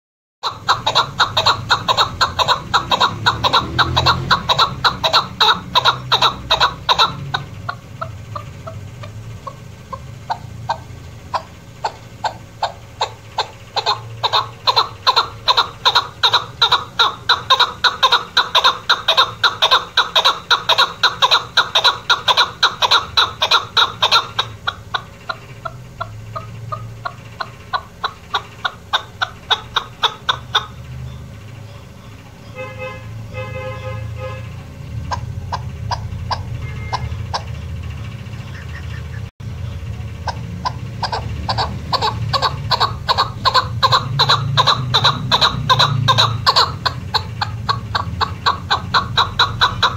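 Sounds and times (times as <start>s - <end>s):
partridge calling: 0.4s - 33.4s, 34.6s - 49.9s.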